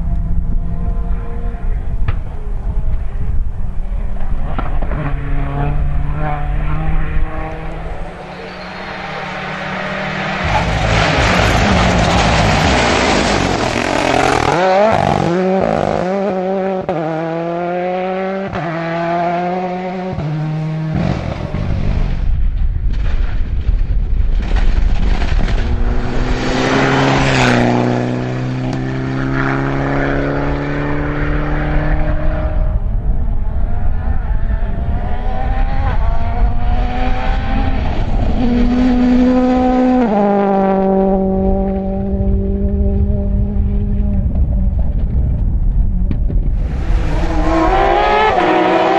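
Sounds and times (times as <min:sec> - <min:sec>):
rally car engines revving: 0:00.0 - 0:22.4, 0:24.4 - 0:48.9.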